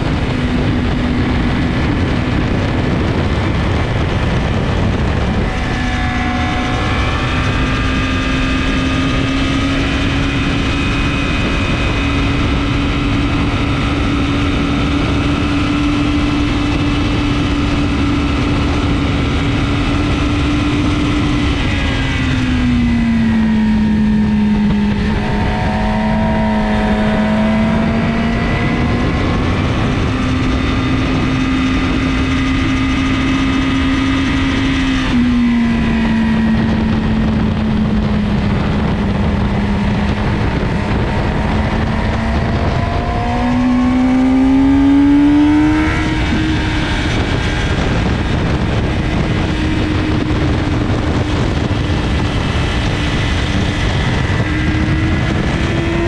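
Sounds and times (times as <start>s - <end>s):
loud wind rush: 0.0s - 56.0s
motorcycle engine running: 0.0s - 56.0s.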